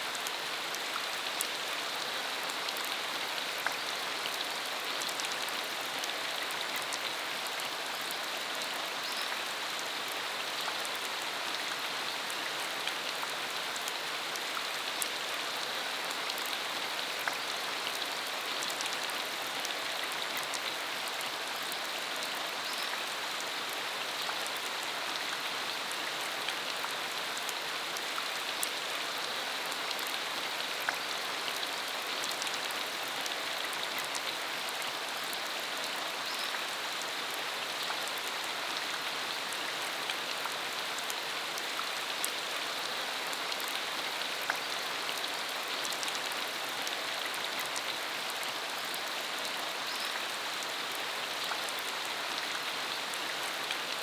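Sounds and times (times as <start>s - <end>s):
rain falling on a dirt road: 0.0s - 54.0s.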